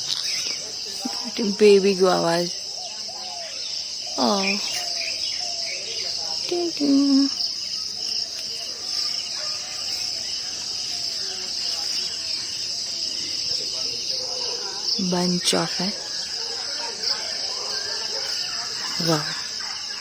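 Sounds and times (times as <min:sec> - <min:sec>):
insects shrilling: 0:00.0 - 0:20.0.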